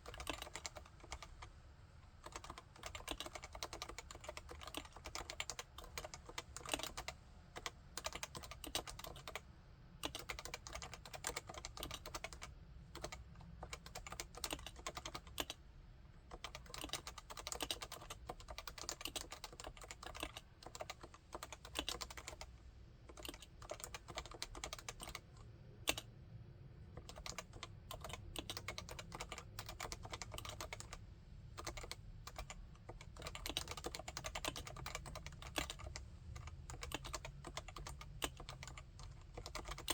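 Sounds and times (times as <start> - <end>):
soft keyboard typing: 0.0 - 1.6, 2.2 - 15.6, 16.3 - 26.1, 27.0 - 39.9.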